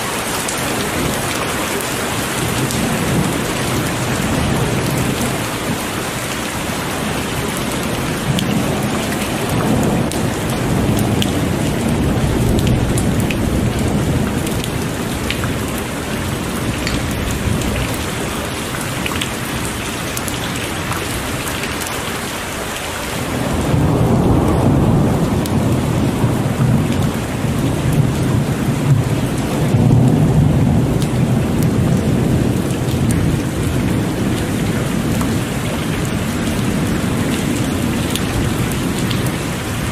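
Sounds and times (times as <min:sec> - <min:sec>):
heavy rain pattering: 0:00.0 - 0:39.9
low rolling thunder: 0:00.5 - 0:21.9, 0:23.1 - 0:39.9.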